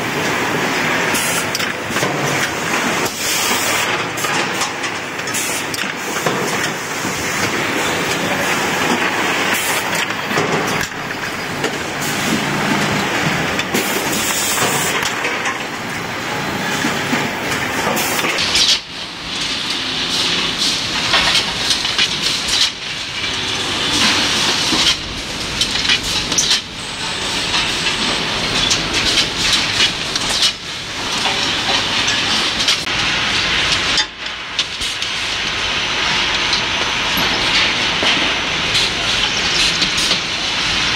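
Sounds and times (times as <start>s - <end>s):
machinery clattering and whirring: 0.0s - 40.9s.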